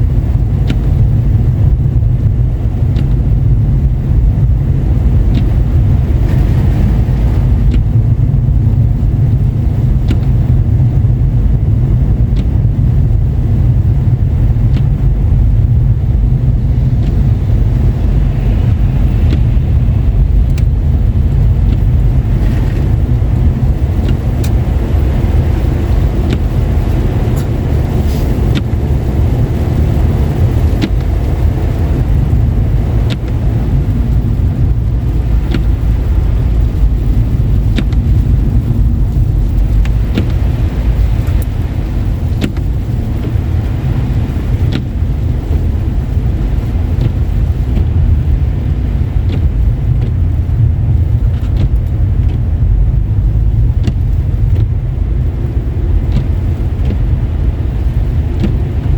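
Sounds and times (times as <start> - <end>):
car driving on wet road: 0.0 - 58.9.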